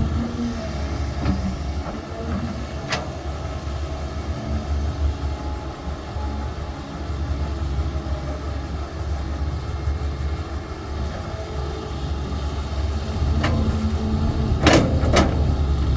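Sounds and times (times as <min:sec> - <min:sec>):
heavy machine engine rumbling: 0:00.0 - 0:15.9.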